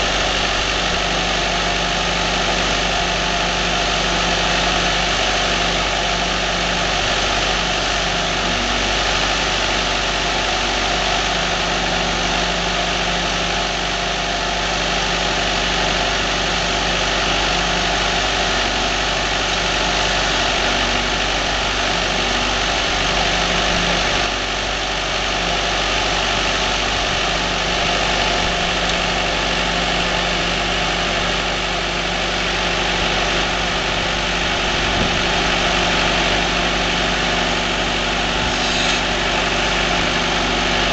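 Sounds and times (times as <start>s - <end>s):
firewood processor engine running: 0.0s - 40.9s.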